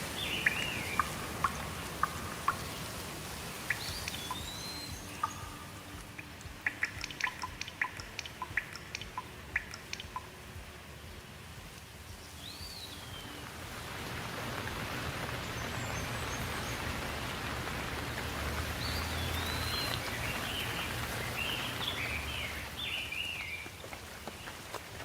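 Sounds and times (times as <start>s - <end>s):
birds chirping: 0.0s - 25.0s
steady rain falling: 0.0s - 25.0s.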